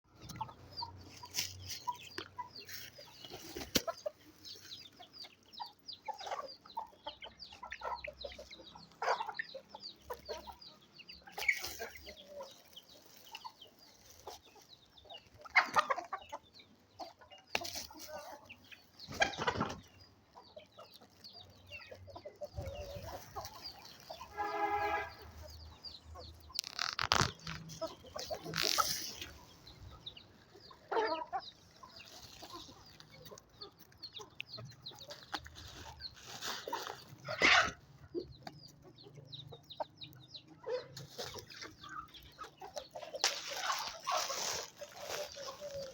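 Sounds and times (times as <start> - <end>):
chickens clucking: 0.1 - 45.9.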